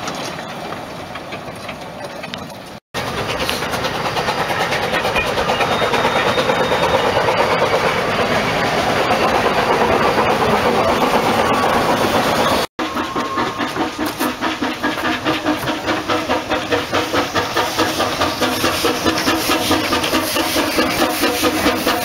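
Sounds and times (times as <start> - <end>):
steam locomotive exhaust beats: 0.0 - 22.0
steam hissing: 3.0 - 22.0.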